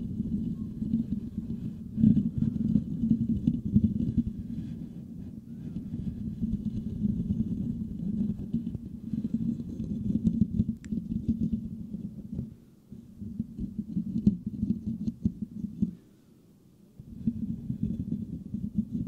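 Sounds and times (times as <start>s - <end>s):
fingers scratching microphone grille: 0.0s - 16.0s, 17.0s - 19.0s.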